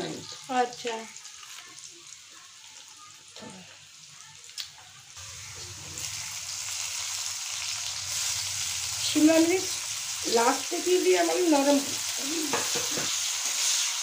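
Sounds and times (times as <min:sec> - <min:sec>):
potatoes sizzling in hot oil: 0:00.0 - 0:14.0.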